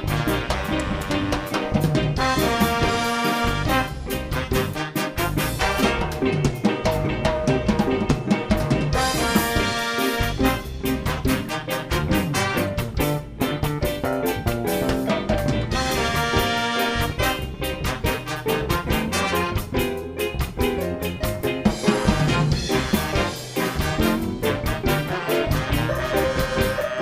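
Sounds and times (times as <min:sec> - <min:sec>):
brass section playing: 0:00.0 - 0:06.5, 0:08.8 - 0:20.3, 0:21.7 - 0:27.0
drum kit beat: 0:00.0 - 0:27.0.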